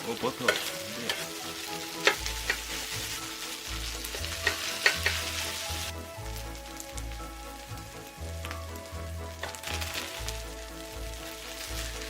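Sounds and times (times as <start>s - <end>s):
rice sizzling in a hot pan: 0.0s - 12.0s.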